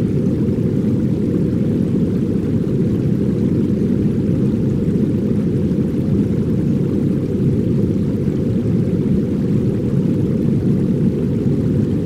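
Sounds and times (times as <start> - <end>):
deep muffled layered noise: 0.0 - 12.0.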